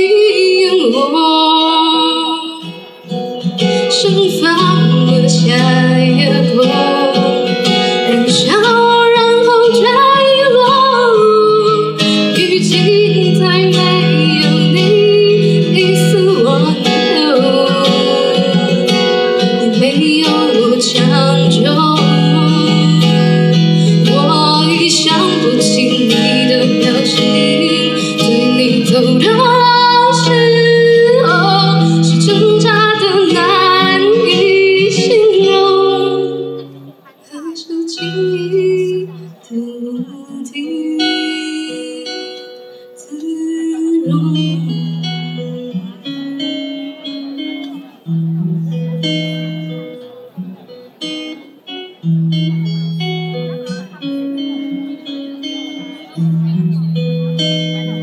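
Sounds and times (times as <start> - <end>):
woman singing into a microphone: 0.0 - 50.0, 52.0 - 58.0
acoustic guitar: 0.0 - 58.0.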